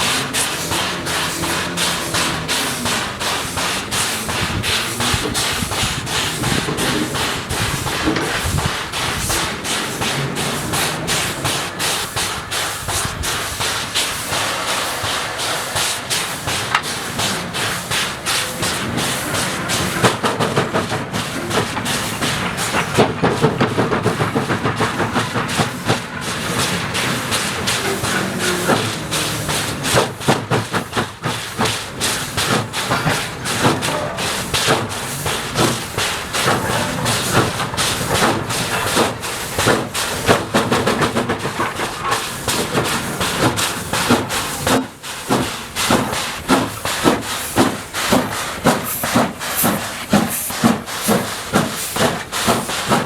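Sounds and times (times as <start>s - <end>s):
hissing steam: 0.0s - 53.0s
steam locomotive chuffing: 0.0s - 53.0s.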